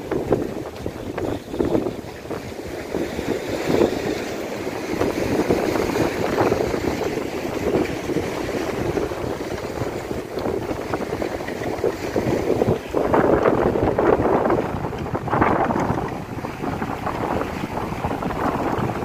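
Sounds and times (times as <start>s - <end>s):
seawater sloshing and gurgling: 0.0s - 19.0s.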